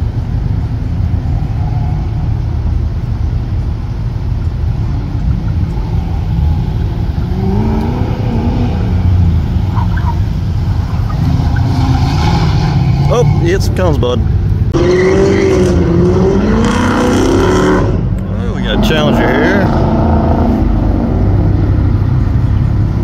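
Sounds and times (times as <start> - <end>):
car engine running hard: 0.0 - 23.0.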